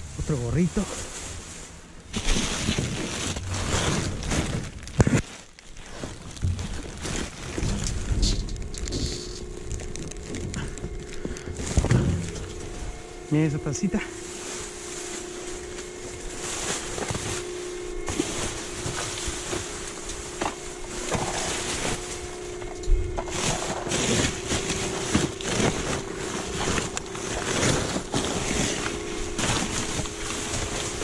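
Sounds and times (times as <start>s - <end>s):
low hum: 0.0s - 31.0s
plastic bags rustling: 0.0s - 31.0s.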